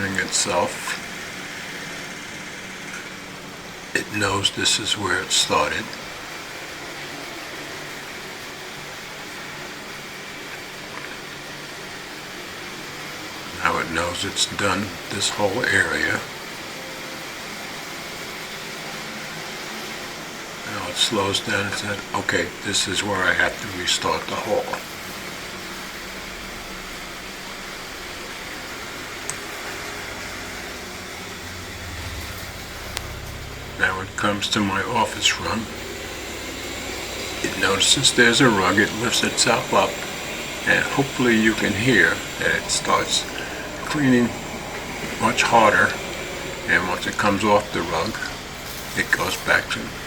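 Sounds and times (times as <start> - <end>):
robot vacuum suction fan hiss: 0.0 - 50.0.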